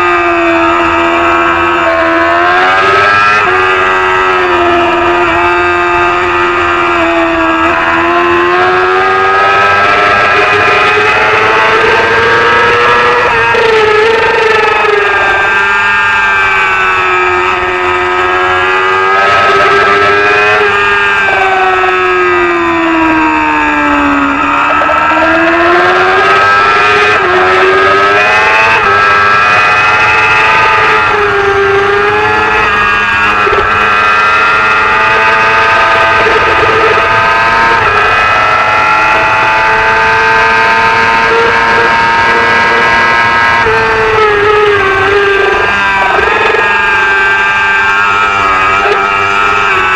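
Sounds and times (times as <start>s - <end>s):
motorcycle engine at high revs: 0.0s - 49.9s.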